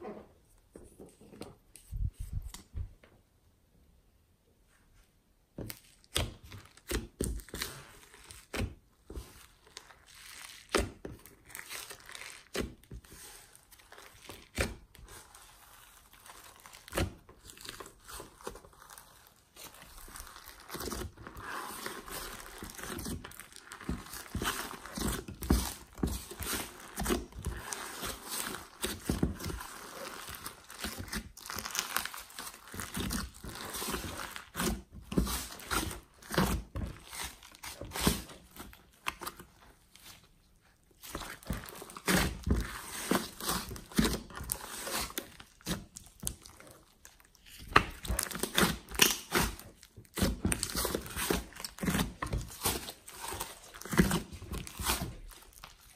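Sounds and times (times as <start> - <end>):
slime squishing by hand: 5.5 - 55.9.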